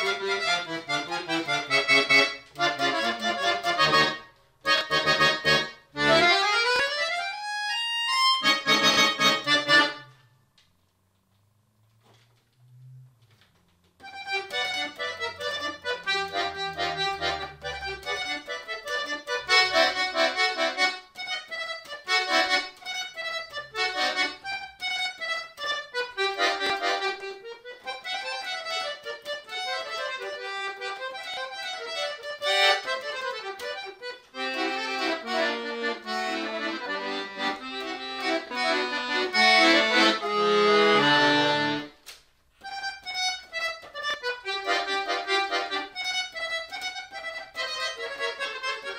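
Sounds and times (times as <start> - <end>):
button accordion playing fast runs: 0.0 - 10.2, 14.0 - 42.0, 42.6 - 48.9.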